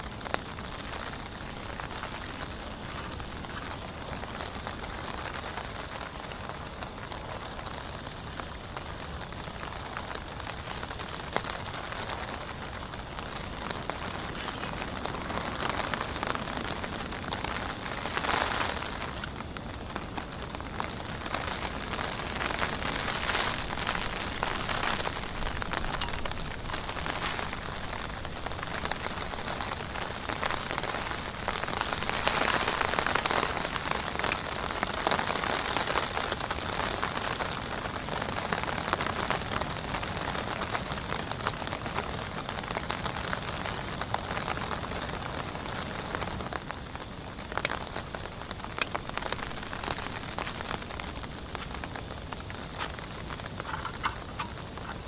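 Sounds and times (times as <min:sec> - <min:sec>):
heavy rain falling: 0:00.0 - 0:55.0
raindrops hitting sharply: 0:00.0 - 0:55.0.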